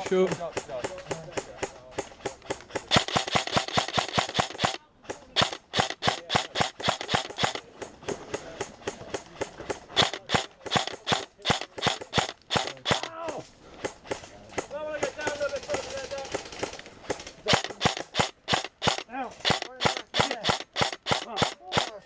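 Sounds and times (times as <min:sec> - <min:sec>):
airsoft guns firing: 0:00.0 - 0:22.0.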